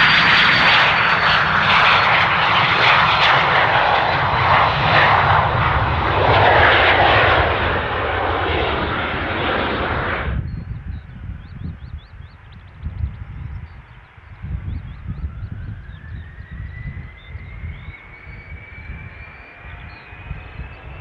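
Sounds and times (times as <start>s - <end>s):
jet engine roar and whine: 0.0s - 21.0s.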